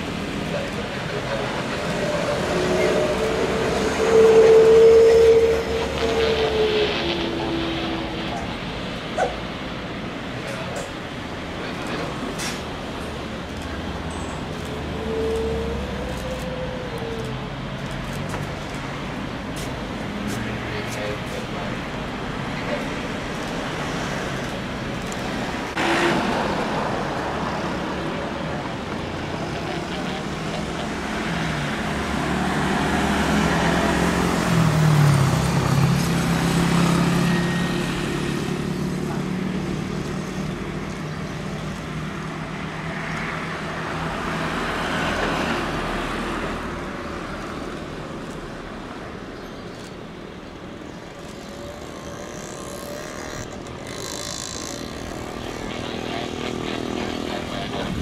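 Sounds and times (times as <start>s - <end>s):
engine and traffic rumble: 0.0s - 58.0s.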